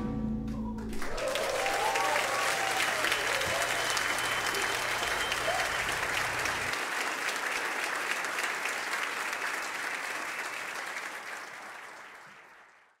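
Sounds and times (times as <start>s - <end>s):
audience applauding: 0.8s - 13.0s.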